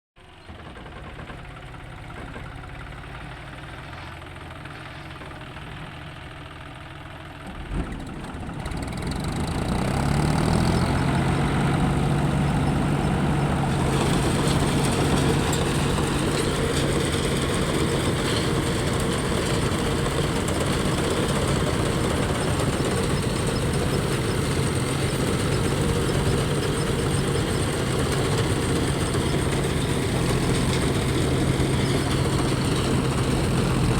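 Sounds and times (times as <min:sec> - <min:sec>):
tractor diesel engine: 0:00.2 - 0:33.9.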